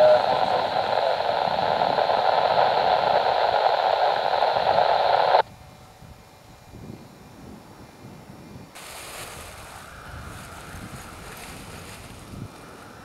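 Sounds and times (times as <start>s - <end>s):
faint wind noise on microphone: 0.0s - 13.0s
loud steady radio hiss: 0.0s - 13.0s.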